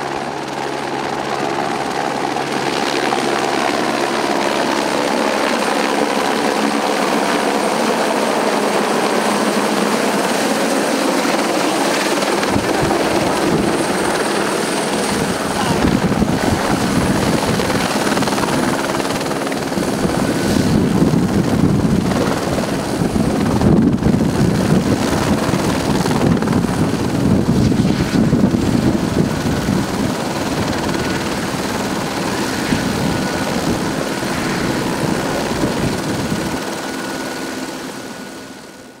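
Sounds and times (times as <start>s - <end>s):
helicopter rotor whirring: 0.0s - 39.0s.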